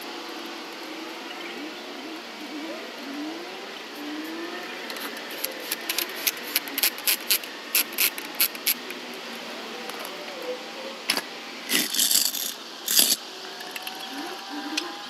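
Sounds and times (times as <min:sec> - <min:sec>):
steady street hum: 0:00.0 - 0:15.0.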